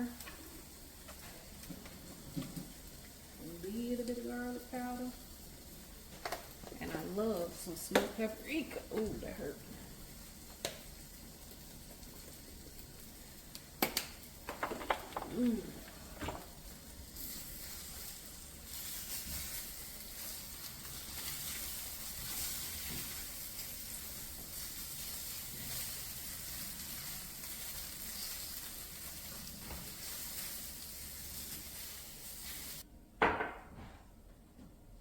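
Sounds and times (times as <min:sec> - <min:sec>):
food sizzling in a pan: 0:00.0 - 0:32.9.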